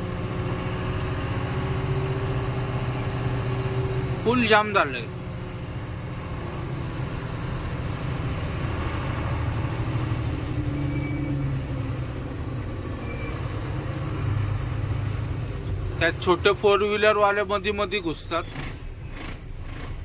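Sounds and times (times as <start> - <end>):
surrounding traffic noise: 0.0 - 20.0
truck engine rumble: 0.0 - 20.0.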